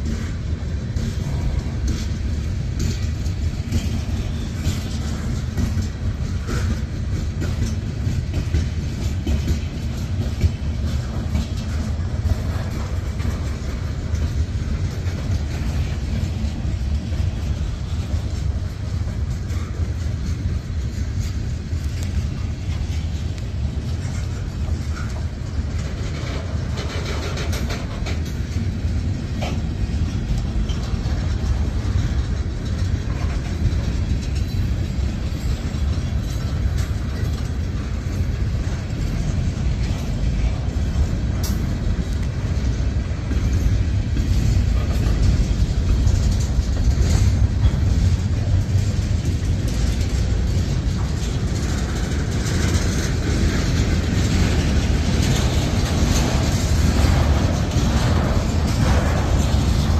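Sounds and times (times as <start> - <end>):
train cars clicking and clanking: 0.0 - 59.9
train wheels rumbling on rail: 0.0 - 59.9.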